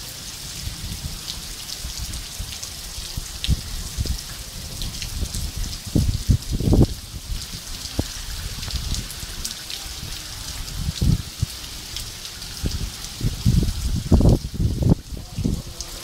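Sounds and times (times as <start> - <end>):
heavy rain hiss: 0.0 - 16.0.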